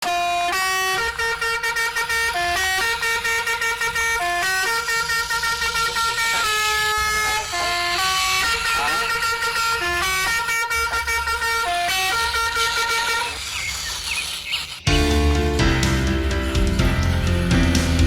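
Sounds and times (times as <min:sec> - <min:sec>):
horn-like tune: 0:00.0 - 0:13.4, 0:14.9 - 0:18.0
quick ticking: 0:00.0 - 0:18.0.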